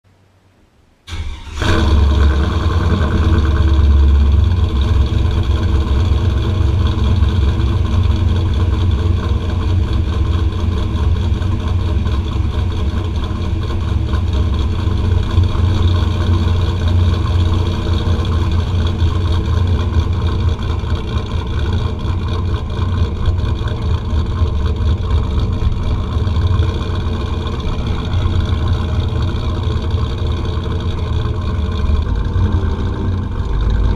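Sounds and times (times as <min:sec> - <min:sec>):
pickup truck engine starting and idling: 0:01.1 - 0:33.9.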